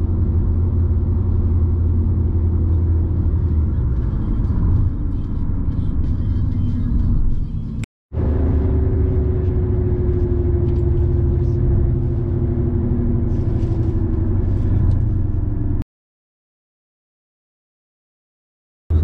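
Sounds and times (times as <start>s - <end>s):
road and engine rumble: 0.0s - 15.8s.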